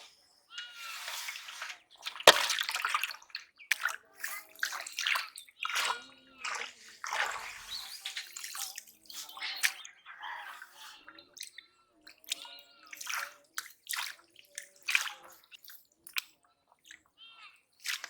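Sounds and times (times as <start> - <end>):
water sloshing and splashing: 0.8 - 17.0, 17.8 - 18.0.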